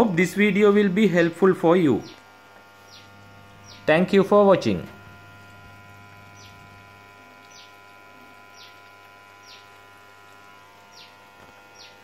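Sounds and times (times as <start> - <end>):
washing machine hum: 0.0 - 12.0.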